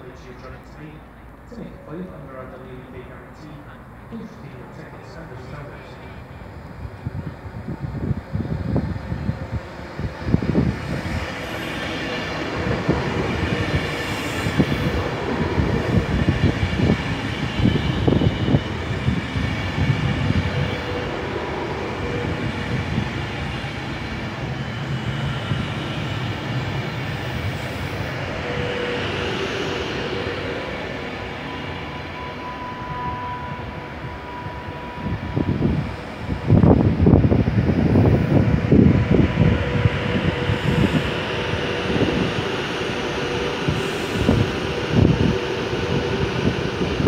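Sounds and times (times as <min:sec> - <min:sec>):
electric train passing at speed: 0:00.0 - 0:47.0.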